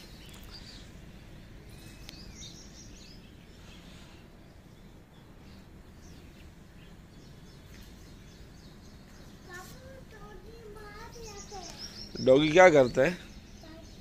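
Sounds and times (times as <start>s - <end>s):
faint bird chirps: 0.0s - 14.0s
low outdoor ambience: 0.0s - 14.0s.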